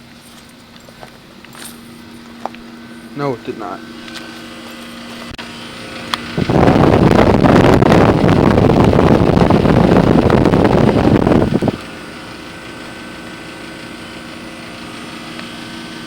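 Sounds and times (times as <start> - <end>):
fan air buffeting microphone: 0.0 - 16.0
heat pump machine hum: 0.0 - 16.0.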